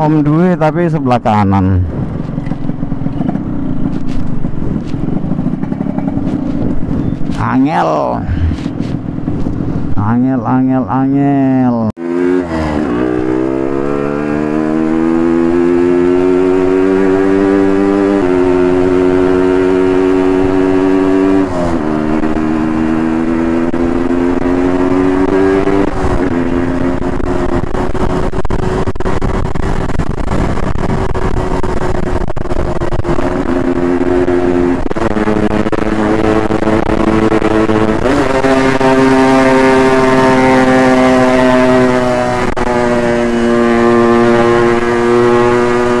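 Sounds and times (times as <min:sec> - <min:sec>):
motorcycle engine accelerating: 0:00.0 - 0:10.0, 0:12.0 - 0:46.0
wind noise: 0:00.0 - 0:10.4, 0:12.5 - 0:46.0.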